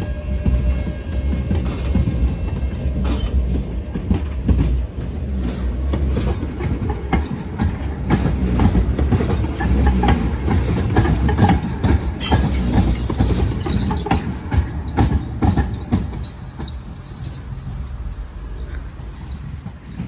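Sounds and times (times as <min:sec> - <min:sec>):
tram rumble: 0:00.0 - 0:20.0
wheels clattering over rail joints: 0:00.0 - 0:20.0.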